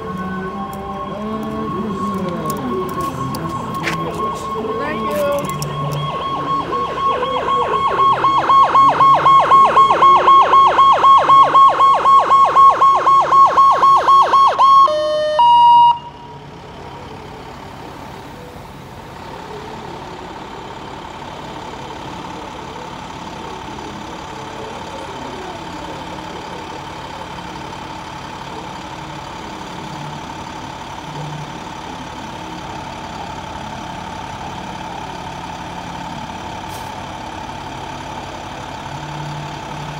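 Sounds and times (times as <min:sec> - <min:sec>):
fire truck engine running: 0:00.0 - 0:39.9
fire truck siren wailing: 0:00.0 - 0:39.9.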